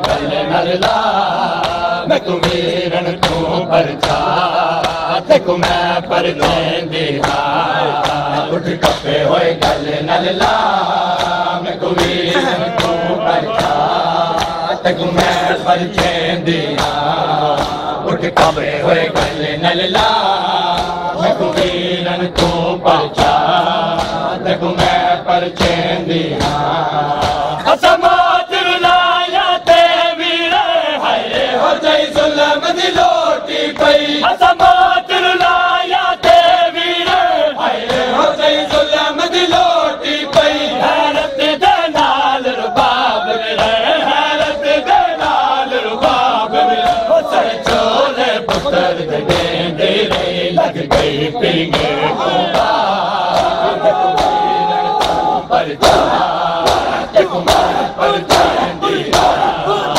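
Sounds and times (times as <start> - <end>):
chest-beating slaps: 0.0 - 28.2, 33.0 - 41.3, 41.9 - 59.9
men chanting together: 0.0 - 59.9.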